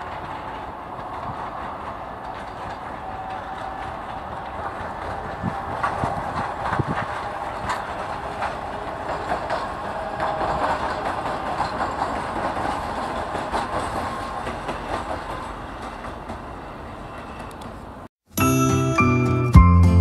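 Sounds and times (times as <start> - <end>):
wheels clattering over rail joints: 0.0 - 17.9.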